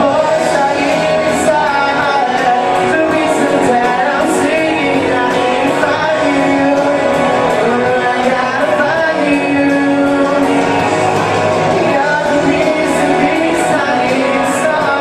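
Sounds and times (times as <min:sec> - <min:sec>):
guitar and band playing: 0:00.0 - 0:15.0
man singing: 0:00.0 - 0:15.0.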